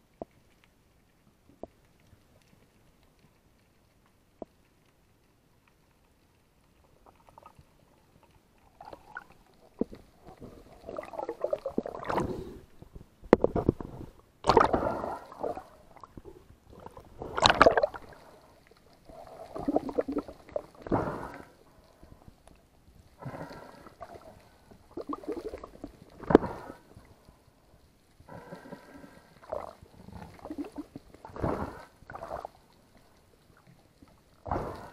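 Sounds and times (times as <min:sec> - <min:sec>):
muffled water sloshing and gurgling: 0:06.7 - 0:34.9.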